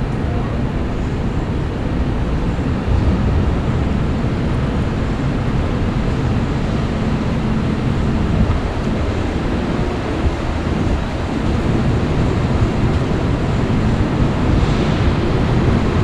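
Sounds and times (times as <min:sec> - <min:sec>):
deep traffic rumble: 0:00.0 - 0:16.0
tyres hissing on wet street: 0:00.2 - 0:16.0.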